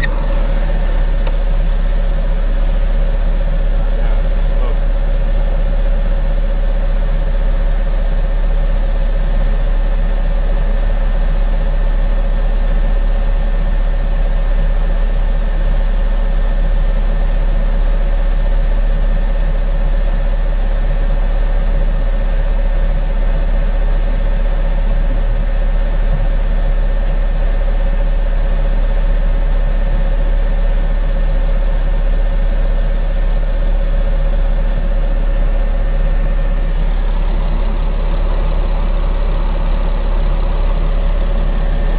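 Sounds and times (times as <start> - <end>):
heavy vehicle engine idling: 0.0 - 41.9.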